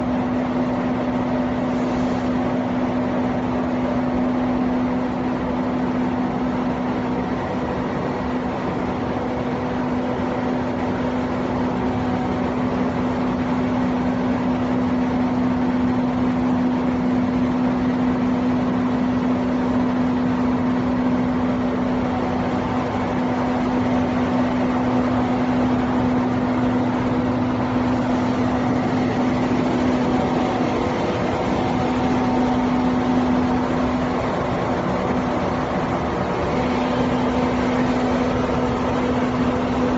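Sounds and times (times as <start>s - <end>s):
extruder machine hum: 0.0s - 39.9s.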